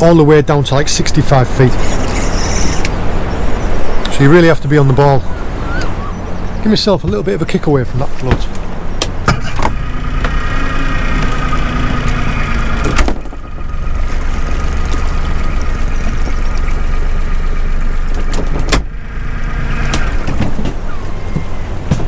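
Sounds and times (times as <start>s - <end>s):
outboard motor running: 0.6s - 22.0s.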